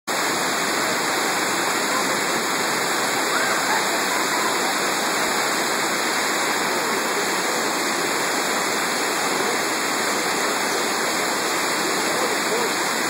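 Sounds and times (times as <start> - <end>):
river rapids rushing over boulders: 0.1 - 13.0.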